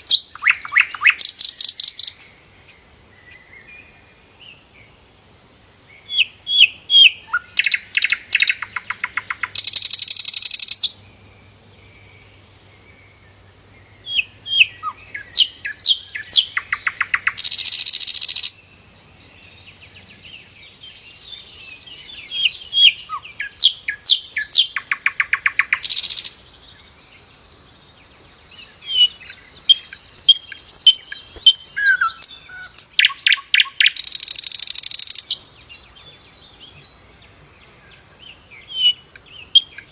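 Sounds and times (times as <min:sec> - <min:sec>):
flycatcher singing: 0:00.0 - 0:04.6, 0:06.0 - 0:11.0, 0:13.9 - 0:18.8, 0:19.6 - 0:37.0, 0:38.0 - 0:39.9.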